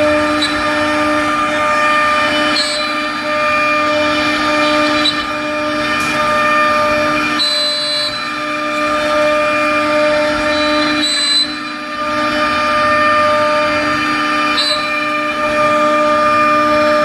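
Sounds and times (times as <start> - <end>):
rough wood cutting noise: 0.0 - 17.0
router spindle whining: 0.0 - 17.0.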